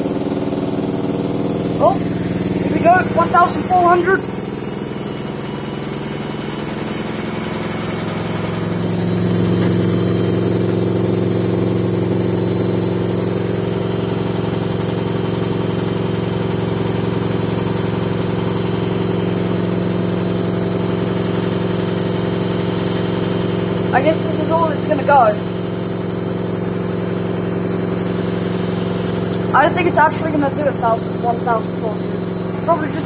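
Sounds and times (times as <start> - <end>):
washing machine spinning: 0.0 - 33.0.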